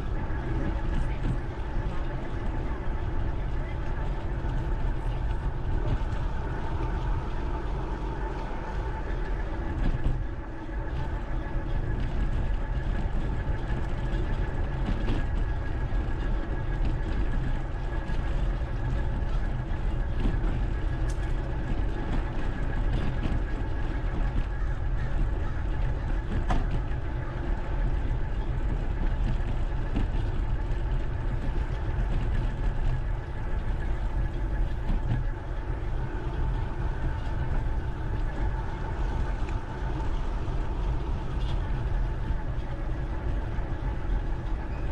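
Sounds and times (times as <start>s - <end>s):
faint steady tones: 0.0s - 44.9s
wind buffeting microphone: 0.0s - 44.9s.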